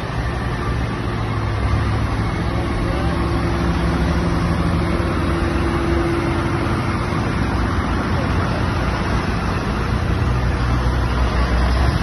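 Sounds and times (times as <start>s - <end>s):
tractor engine passing: 0.0s - 12.0s.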